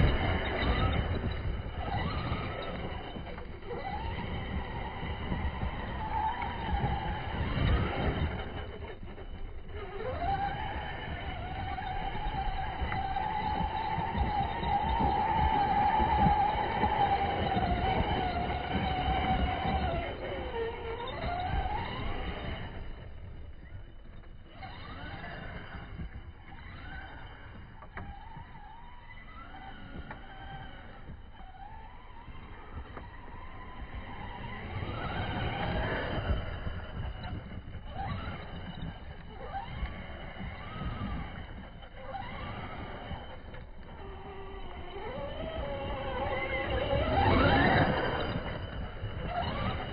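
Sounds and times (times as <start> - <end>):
electric motor whining: 0.0 - 49.9
tyres scrabbling through dirt: 0.0 - 49.9.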